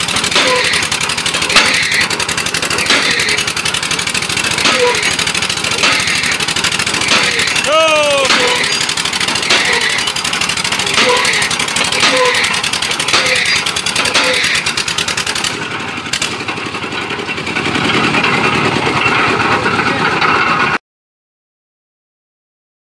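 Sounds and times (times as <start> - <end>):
winch engine running: 0.0 - 20.8.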